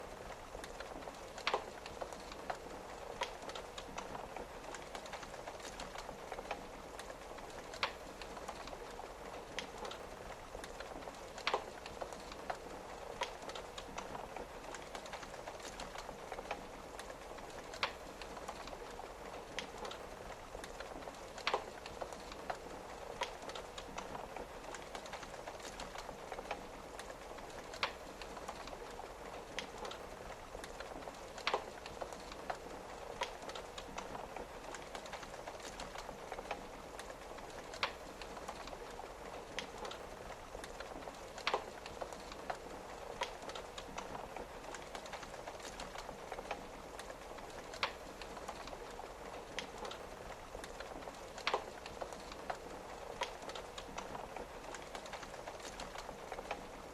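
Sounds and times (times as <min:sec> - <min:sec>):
rain on a window: 0:00.0 - 0:56.9
wood fire crackling and popping: 0:00.0 - 0:56.9.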